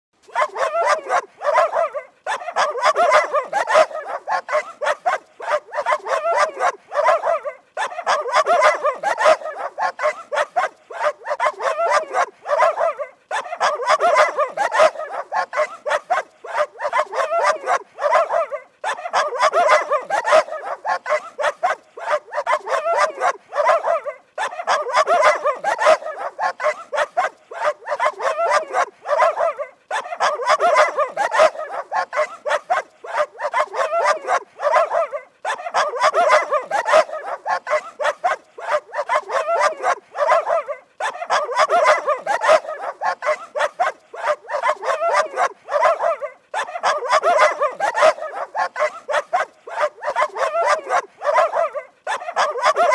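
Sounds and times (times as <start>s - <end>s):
dogs barking: 0.2s - 52.9s.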